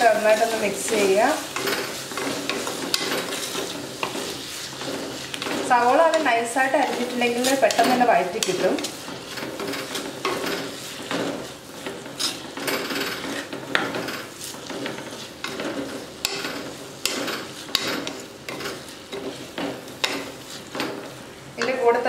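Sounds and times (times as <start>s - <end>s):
wooden spatula scraping clay pot: 0.0s - 21.1s
onions sizzling in oil: 0.0s - 22.0s.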